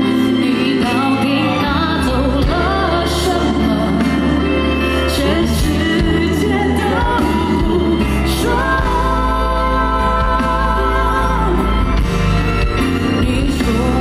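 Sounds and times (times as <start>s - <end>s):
band playing: 0.0s - 14.0s
woman singing into microphone: 0.0s - 14.0s.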